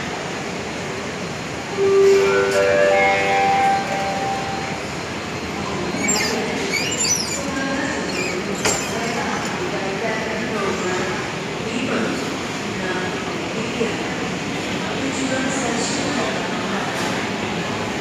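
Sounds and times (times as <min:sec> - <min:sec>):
murmur of station hall: 0:00.0 - 0:18.0.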